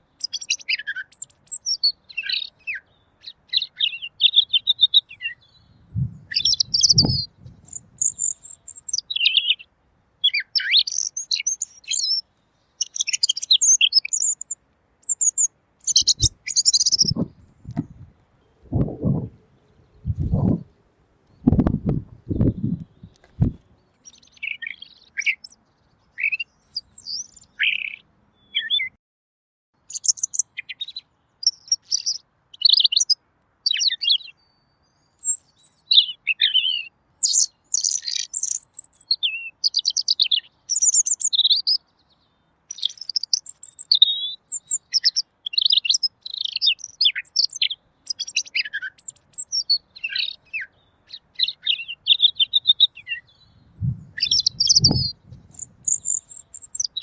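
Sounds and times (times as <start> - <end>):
bird singing warbled phrases: 0.0 - 29.0, 29.8 - 57.0.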